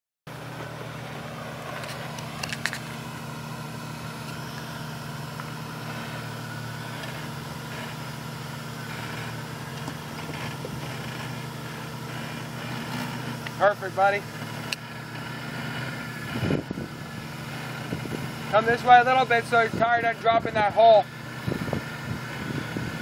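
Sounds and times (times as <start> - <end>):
car engine idling: 0.3 - 23.0.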